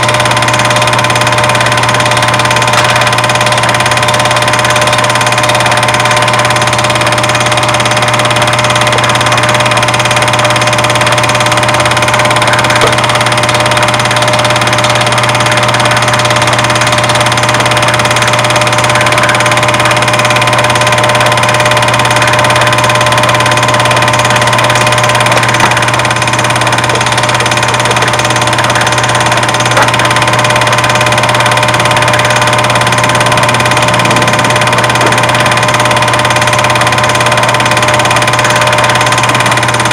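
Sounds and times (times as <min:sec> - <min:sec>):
loud steady hum with hiss: 0:00.0 - 0:39.9.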